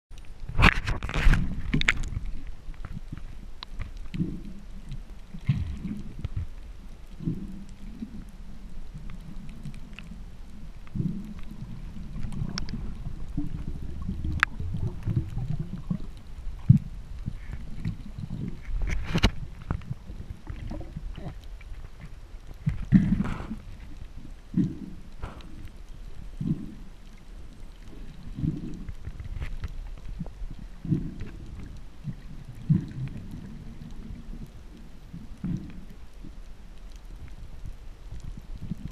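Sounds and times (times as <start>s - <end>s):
faint clicks: 0.1s - 38.9s
faint ticks: 0.1s - 38.9s
muffled underwater rumble: 0.1s - 38.9s.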